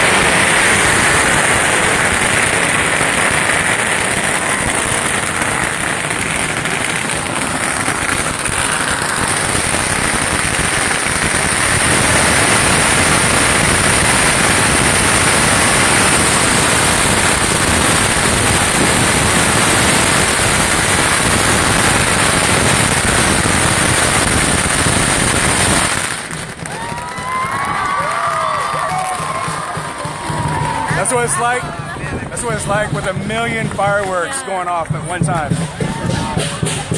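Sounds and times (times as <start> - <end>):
firecrackers crackling: 0.0 - 36.9.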